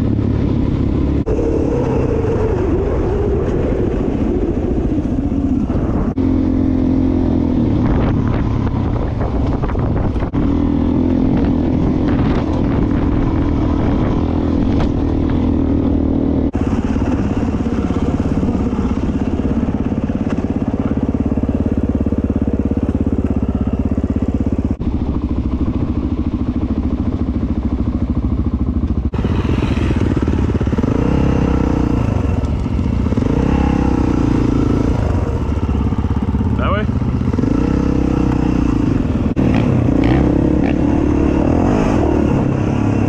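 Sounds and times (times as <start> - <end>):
dirt bike engine running: 0.0 - 43.0.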